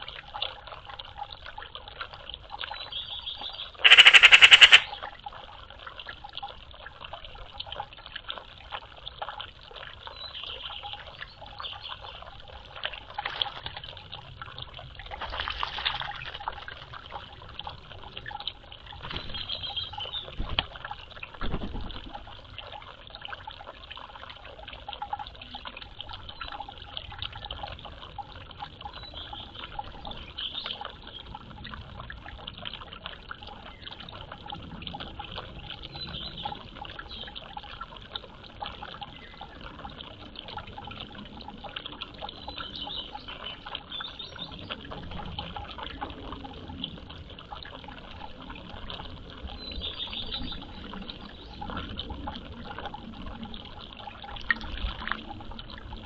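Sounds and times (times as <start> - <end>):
water dripping and splashing: 0.0 - 56.0
water trickling: 0.0 - 56.0.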